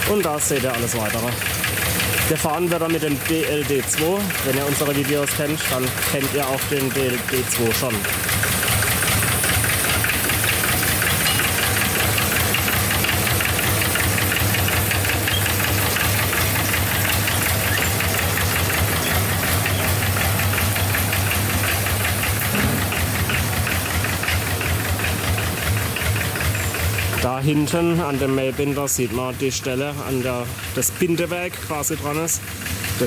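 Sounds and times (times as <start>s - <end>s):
tractor engine knocking: 0.0s - 33.0s.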